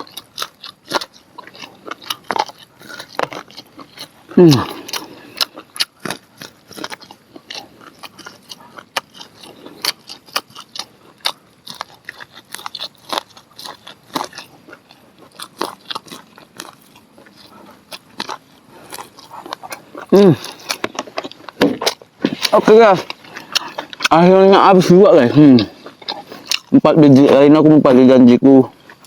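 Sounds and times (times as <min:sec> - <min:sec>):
person chewing corn on the cob: 0:00.0 - 0:29.0.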